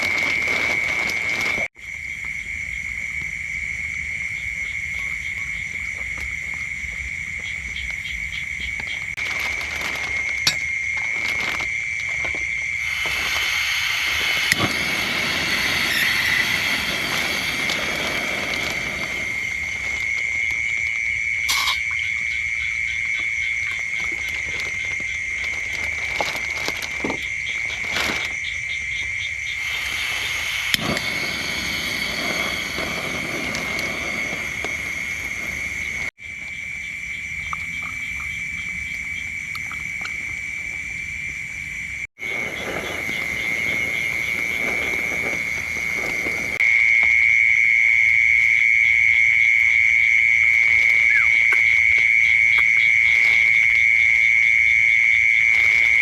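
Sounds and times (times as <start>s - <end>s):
frogs and insects trilling: 0.0s - 56.0s.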